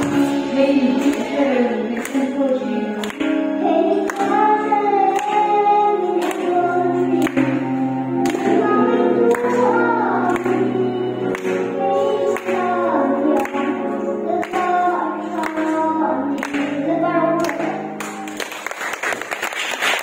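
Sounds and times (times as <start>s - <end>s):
people clapping: 0.0s - 20.0s.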